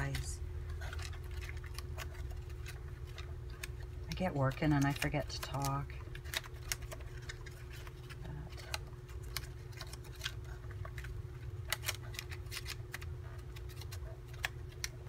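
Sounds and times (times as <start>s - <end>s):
paper cards rustling: 0.0s - 15.0s
steady low hum: 0.0s - 15.0s.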